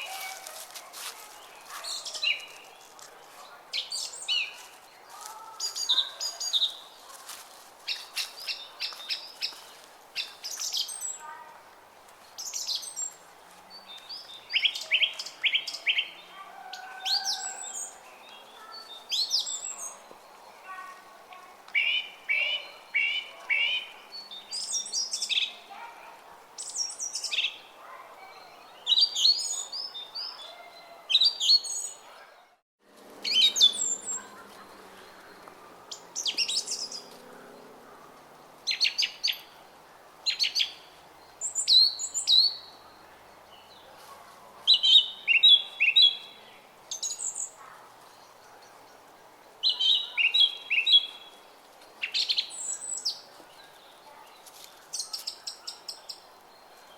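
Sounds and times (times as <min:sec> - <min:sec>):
songbirds chirping and singing: 0:00.0 - 0:11.4, 0:12.3 - 0:32.5, 0:33.2 - 0:39.6, 0:40.3 - 0:56.9.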